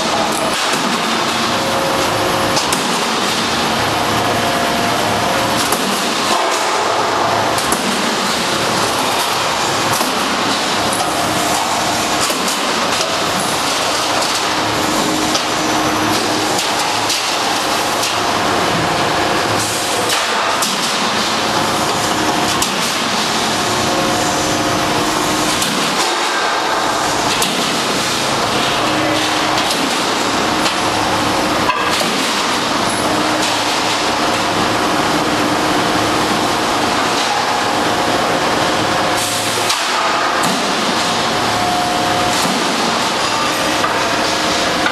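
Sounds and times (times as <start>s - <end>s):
roll forming machine running: 0.0s - 44.9s.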